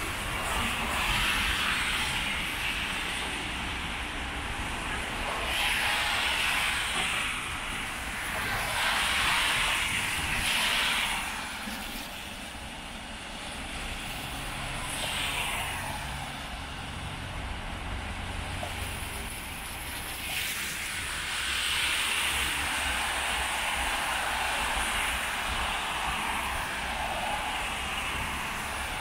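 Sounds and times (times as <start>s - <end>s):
steady rain hiss: 0.0s - 29.0s
tyres hissing on wet road: 0.0s - 29.0s.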